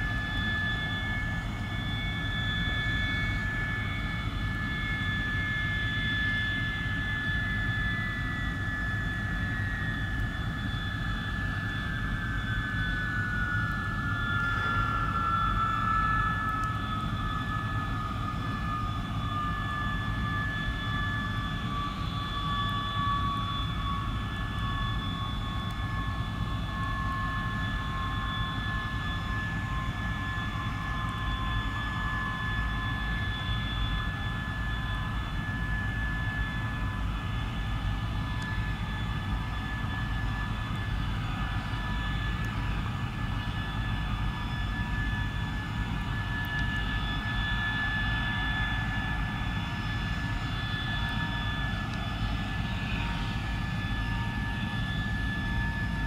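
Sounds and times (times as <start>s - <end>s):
jet engine whining: 0.0s - 56.0s.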